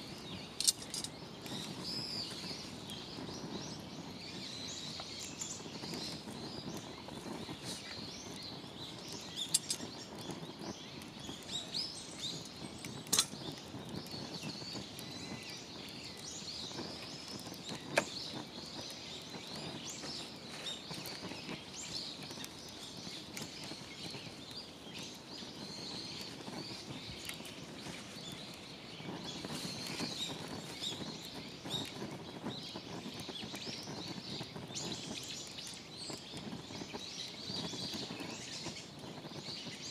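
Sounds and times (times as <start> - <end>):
outdoor background noise: 0.0 - 39.9
small birds chirping: 0.0 - 39.9.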